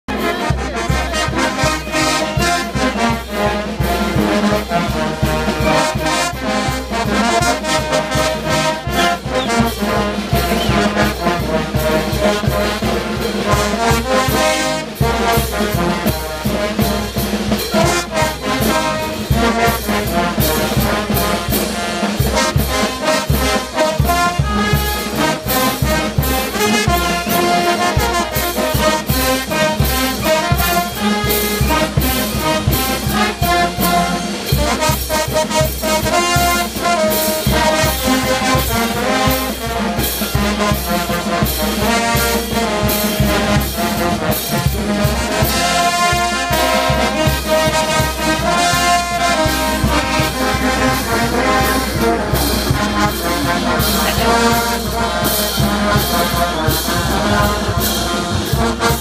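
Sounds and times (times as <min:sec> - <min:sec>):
brass band playing dance tune: 0:00.0 - 0:59.0
steady bass drum beat: 0:00.3 - 0:59.0.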